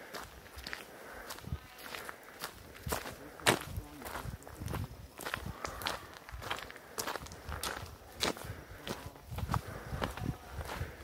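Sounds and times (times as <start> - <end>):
footsteps on leaf-covered dirt: 0.0 - 11.0.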